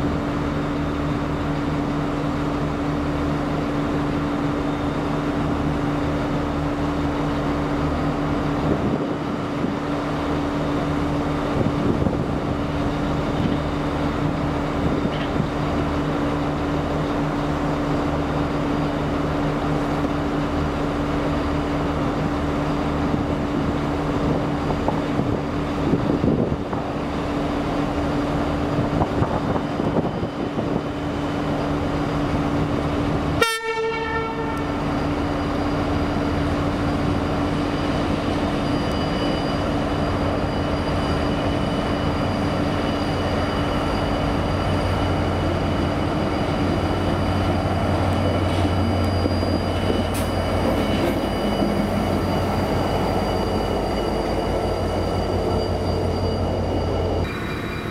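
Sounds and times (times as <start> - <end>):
diesel locomotive engine running: 0.0 - 57.9.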